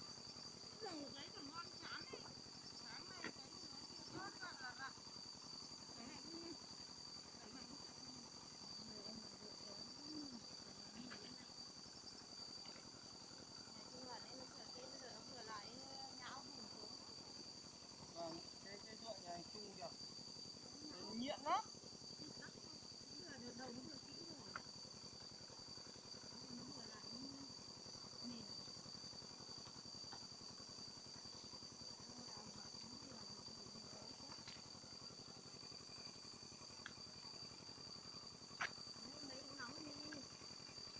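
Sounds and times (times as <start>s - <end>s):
insect chorus drone: 0.0s - 40.9s.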